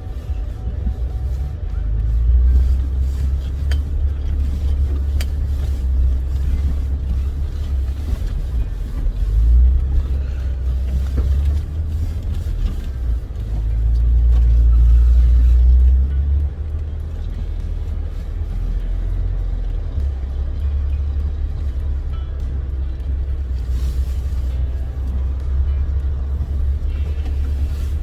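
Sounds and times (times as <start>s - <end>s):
engine and tyres rumbling: 0.0s - 28.0s.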